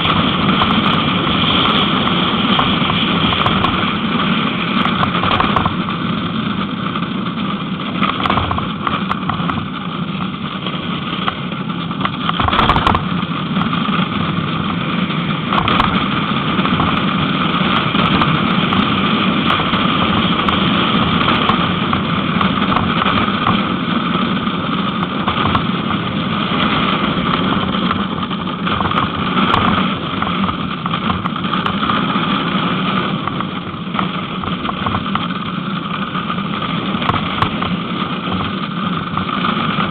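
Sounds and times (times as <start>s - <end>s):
cart wheels rumbling on asphalt: 0.0s - 39.9s.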